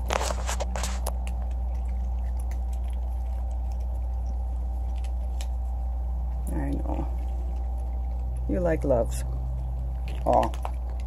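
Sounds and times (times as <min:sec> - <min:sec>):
cats crunching dry kibble: 0:00.0 - 0:11.0
steady low hum: 0:00.0 - 0:11.0.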